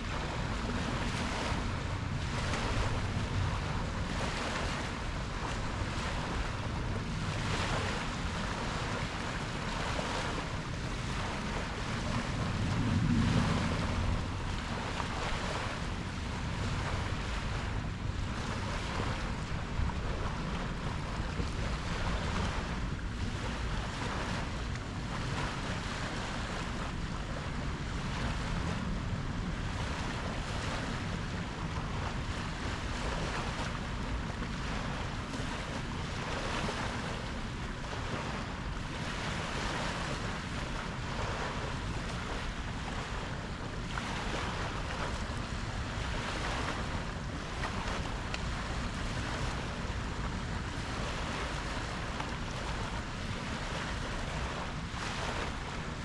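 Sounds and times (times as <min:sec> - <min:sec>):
ocean waves washing: 0:00.0 - 0:56.0
wind rumbling on microphone: 0:00.0 - 0:56.0.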